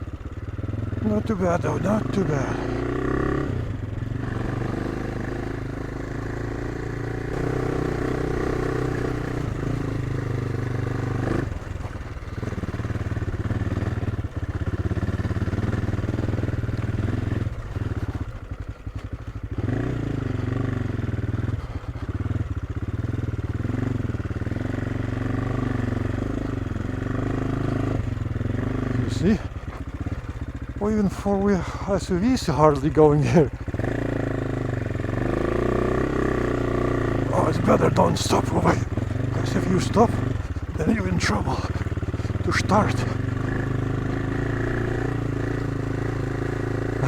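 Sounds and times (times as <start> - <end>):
motorcycle engine under load: 0.0 - 47.0.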